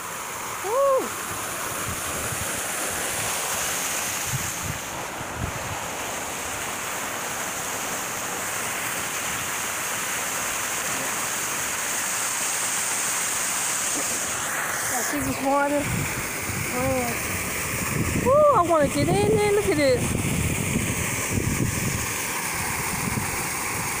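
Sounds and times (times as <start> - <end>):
fountain splashing into basin: 0.0 - 24.0.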